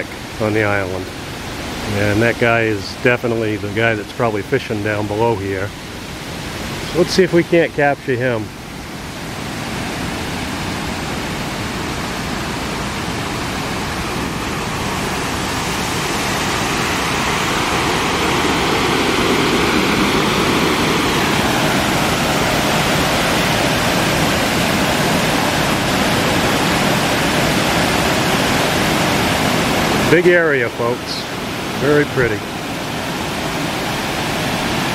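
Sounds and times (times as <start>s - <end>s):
water rushing over spillway: 0.0s - 34.9s.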